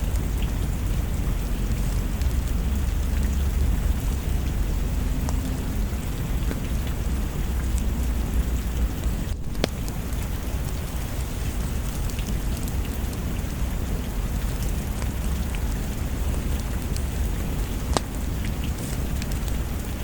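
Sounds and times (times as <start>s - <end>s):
deep low rumble: 0.0s - 20.0s
heavy rain: 0.0s - 20.0s.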